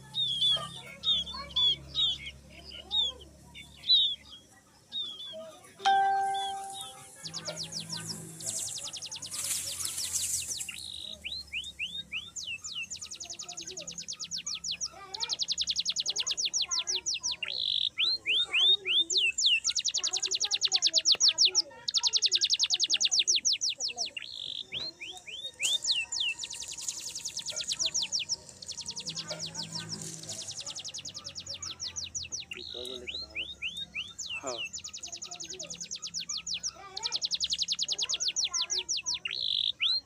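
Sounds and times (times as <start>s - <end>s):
bird singing rapid trills: 0.0s - 40.0s.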